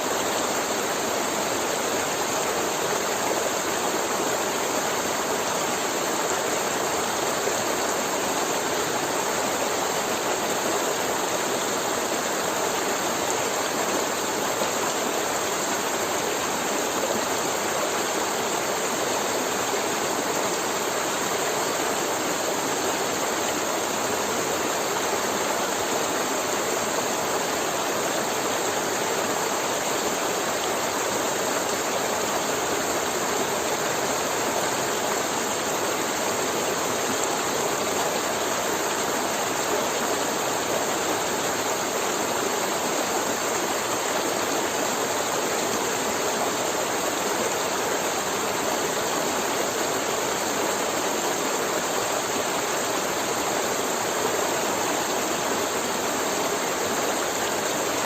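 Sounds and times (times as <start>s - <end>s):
river water gurgling over rocks: 0.0s - 58.0s.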